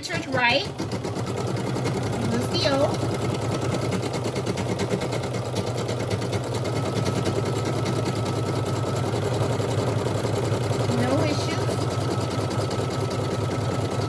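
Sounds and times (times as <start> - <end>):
embroidery machine needle rhythm: 0.0 - 14.0
motor hum: 0.0 - 14.0.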